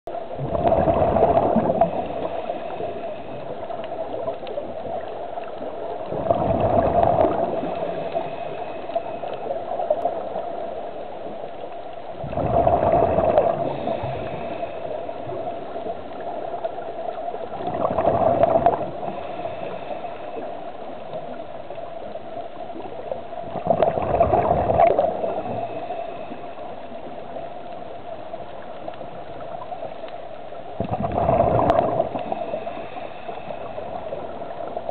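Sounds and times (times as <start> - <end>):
exhaled bubbles gurgling underwater: 0.1 - 34.9
steady hum: 0.1 - 34.9.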